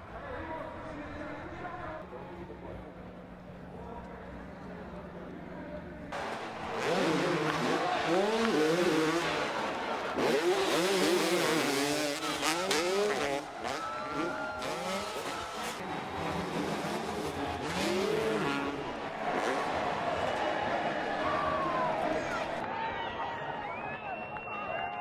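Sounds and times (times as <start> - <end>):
dirt bike engines revving: 2.4 - 22.7.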